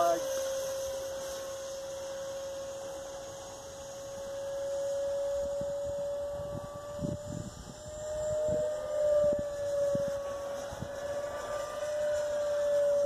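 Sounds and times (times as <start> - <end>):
electric ducted fan whining: 0.0 - 13.0.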